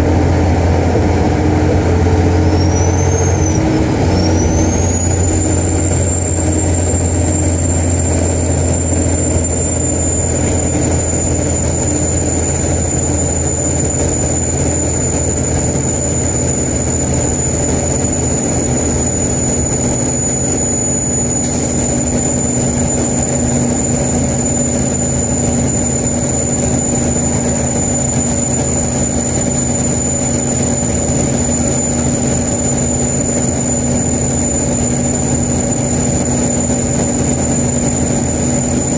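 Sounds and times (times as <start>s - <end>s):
diesel engine low drone: 0.0s - 38.9s
turbocharger whistling: 0.0s - 38.9s.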